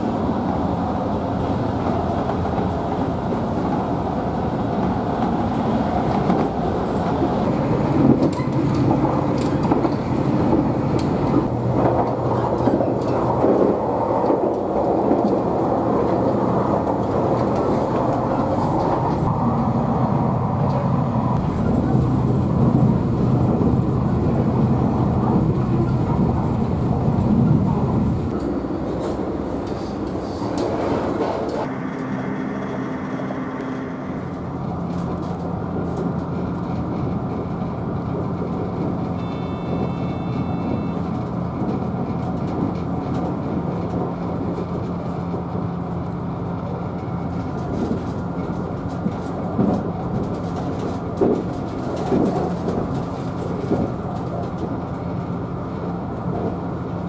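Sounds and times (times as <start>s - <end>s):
train interior rumble and hum: 0.0s - 57.0s.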